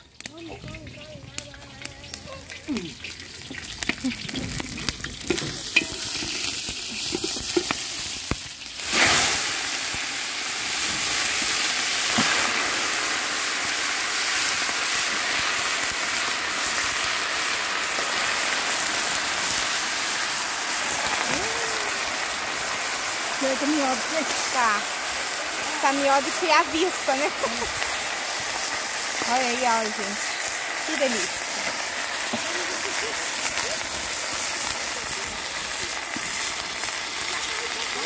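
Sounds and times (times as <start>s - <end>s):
chicken sizzling in hot fat: 0.0s - 38.0s.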